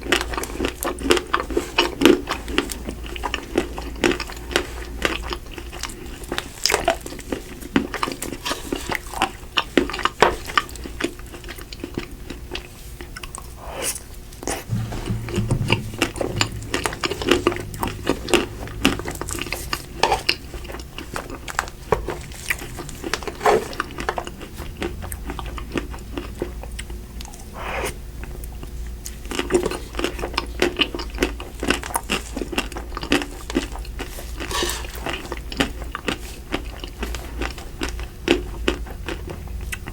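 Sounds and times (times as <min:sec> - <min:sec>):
chewing crunchy ice cream: 0:00.0 - 0:14.6, 0:17.8 - 0:39.9.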